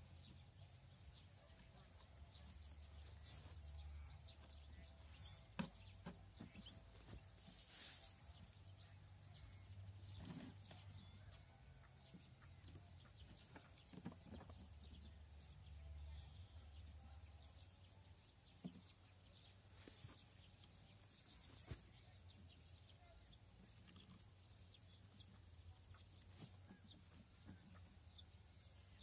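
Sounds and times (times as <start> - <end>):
soft knocks and rustles of hay: 1.1 - 15.1, 18.5 - 29.0.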